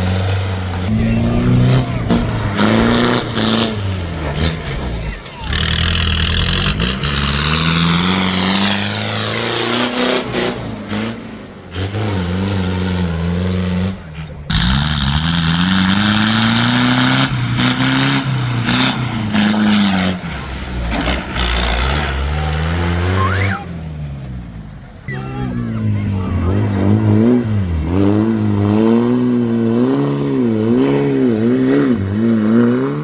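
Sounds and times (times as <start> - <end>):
diesel engines revving: 0.0 - 33.0.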